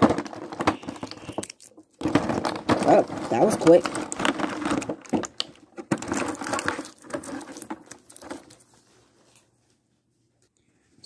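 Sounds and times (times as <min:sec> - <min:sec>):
cardboard and plastic crinkling: 0:00.0 - 0:09.6.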